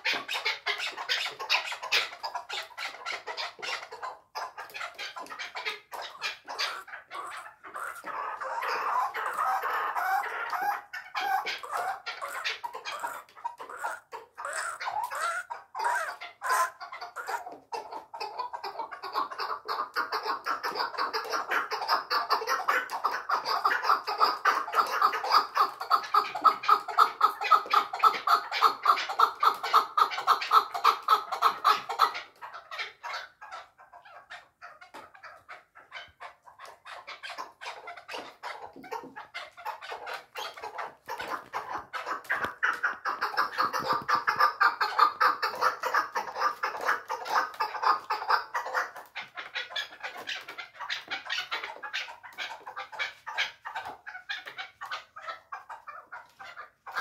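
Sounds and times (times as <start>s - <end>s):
partridge clucking calls: 0.0s - 57.0s.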